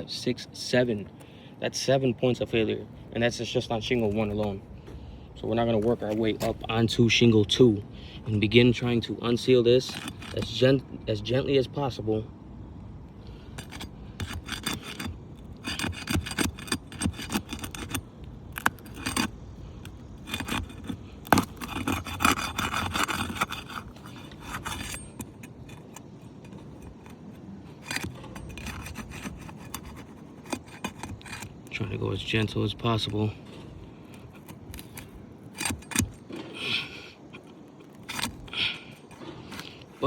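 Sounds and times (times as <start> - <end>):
tool scraping roof shingle: 2.3 - 10.9, 13.3 - 40.0.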